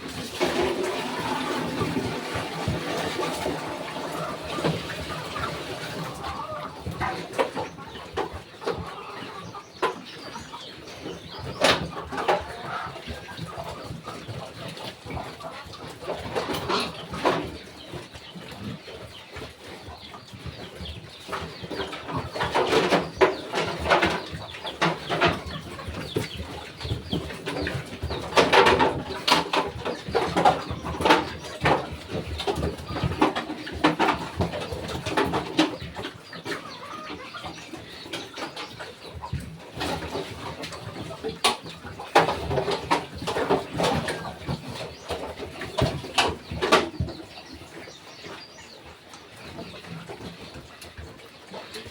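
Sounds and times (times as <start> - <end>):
farm animals calling and clucking: 0.0 - 51.9.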